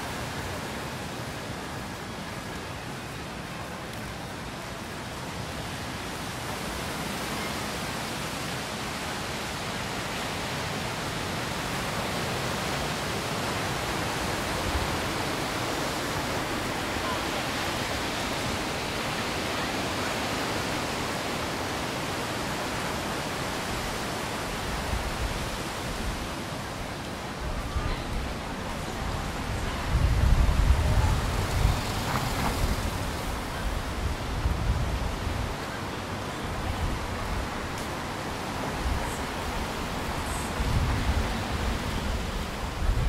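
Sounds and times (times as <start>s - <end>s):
steady outdoor rushing noise: 0.0s - 43.0s.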